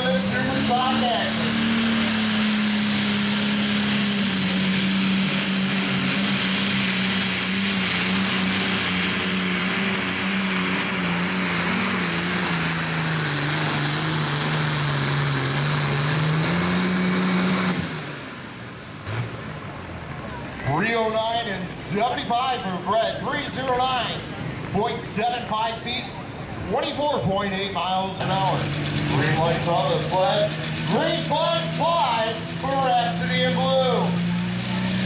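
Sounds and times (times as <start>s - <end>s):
tractor diesel engine running flat out: 0.0s - 35.0s.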